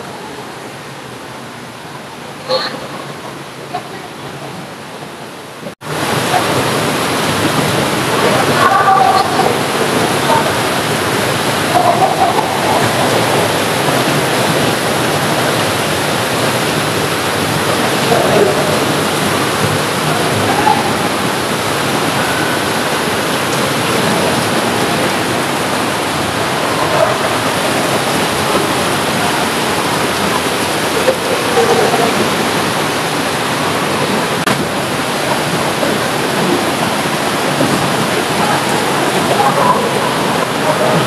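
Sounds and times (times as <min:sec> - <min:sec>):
rushing water: 0:00.0 - 0:41.0.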